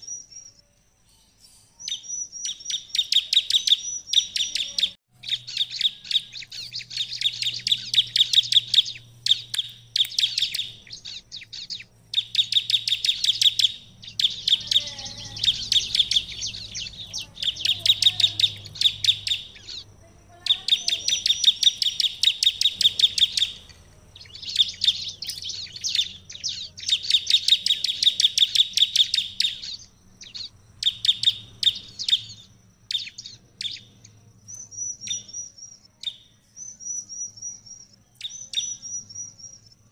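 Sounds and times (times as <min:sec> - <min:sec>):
bird chirping rapidly: 0:00.0 - 0:00.6, 0:01.5 - 0:39.9.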